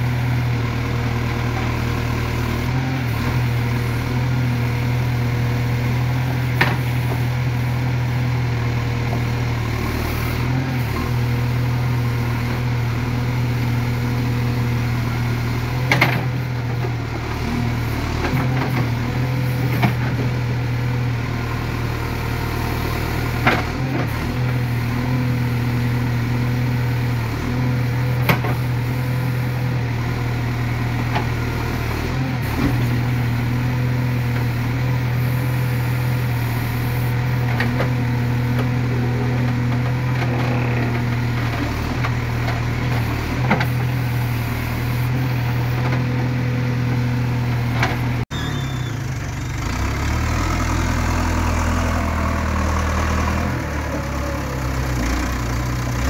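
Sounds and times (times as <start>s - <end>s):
backhoe digging soil: 0.0s - 56.0s
diesel engine running under load: 0.0s - 56.0s.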